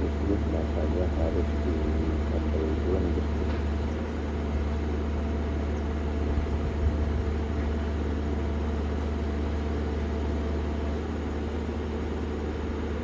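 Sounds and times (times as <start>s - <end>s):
engine rumbling steadily: 0.0s - 13.0s.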